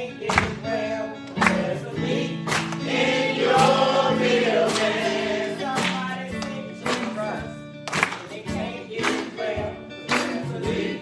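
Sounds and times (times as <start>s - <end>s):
choir singing gospel with band: 0.0s - 11.0s.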